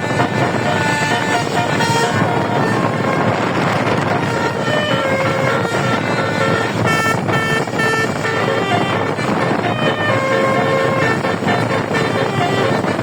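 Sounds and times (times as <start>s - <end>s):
bus horn melodic notes: 0.0s - 13.0s
steady rush of noise: 0.0s - 13.0s.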